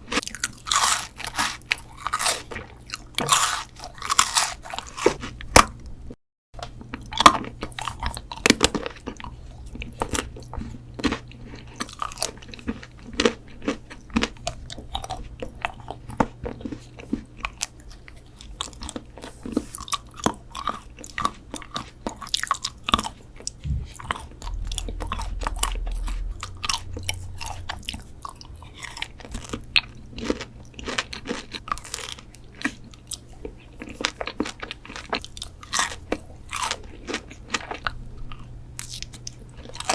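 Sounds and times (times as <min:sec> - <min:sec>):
crunchy chewing of sweets: 0:00.0 - 0:39.9.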